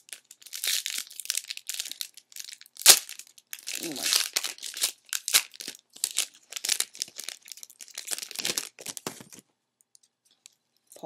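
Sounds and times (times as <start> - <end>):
packaging crinkling and rustling: 0.0 - 9.5.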